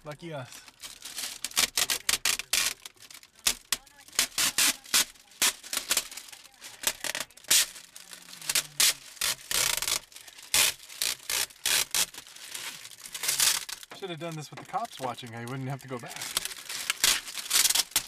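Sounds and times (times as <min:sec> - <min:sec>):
plastic film peeling off glass: 0:00.0 - 0:18.0.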